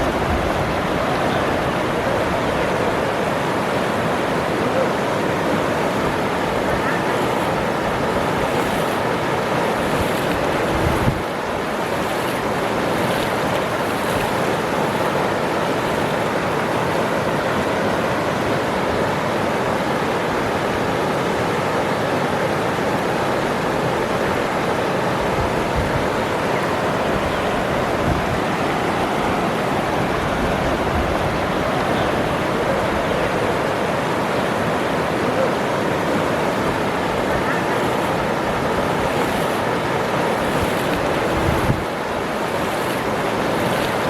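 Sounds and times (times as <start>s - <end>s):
waterfall rushing and splashing: 0.0s - 44.0s.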